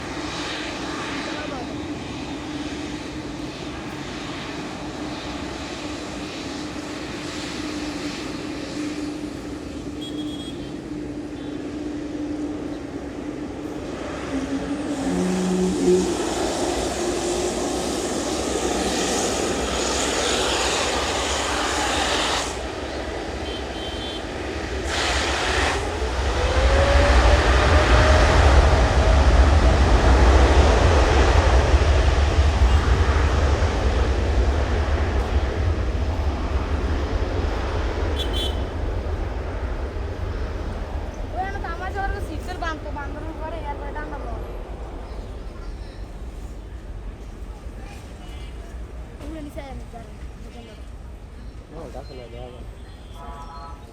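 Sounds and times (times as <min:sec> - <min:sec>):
jet engine whine rising: 0:00.0 - 0:47.0
jet engines roaring: 0:00.0 - 0:48.2.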